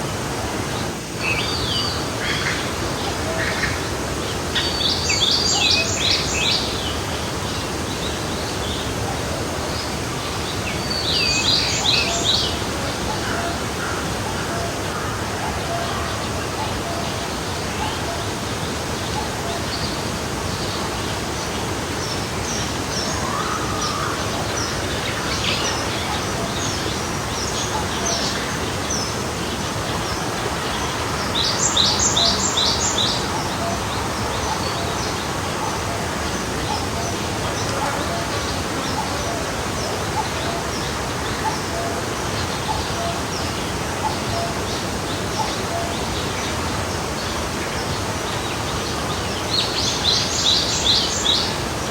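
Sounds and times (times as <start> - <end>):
stream flowing: 0.0 - 51.9.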